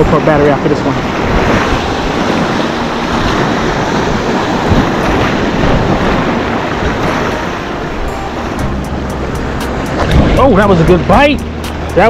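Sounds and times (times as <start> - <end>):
waves breaking against rocks: 0.0 - 8.6, 9.4 - 12.0
wind buffeting microphone: 0.0 - 12.0.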